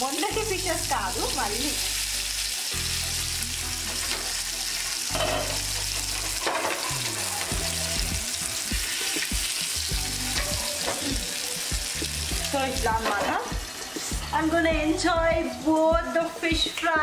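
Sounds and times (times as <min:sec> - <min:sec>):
fish sizzling in oil: 0:00.0 - 0:17.0.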